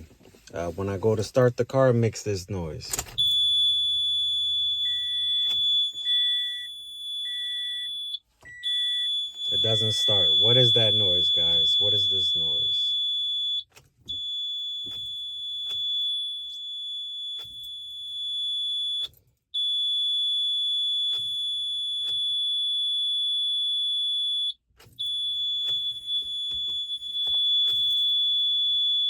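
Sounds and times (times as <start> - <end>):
car warning buzzer tone: 3.2 - 29.0.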